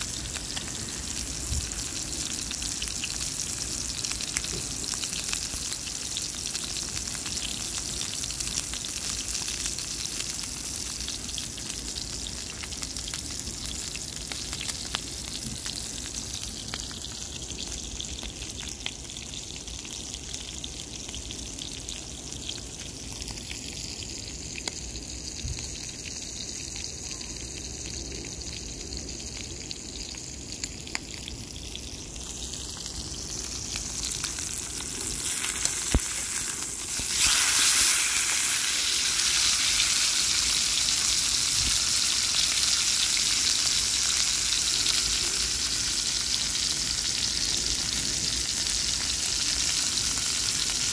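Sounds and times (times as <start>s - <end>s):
oil popping and crackling: 0.0s - 50.9s
steak sizzling in oil: 0.0s - 50.9s.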